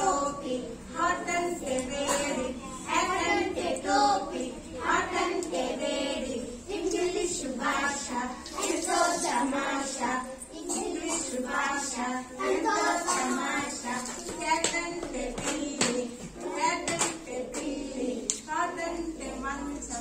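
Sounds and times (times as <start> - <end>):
girls singing in chorus: 0.0 - 20.0.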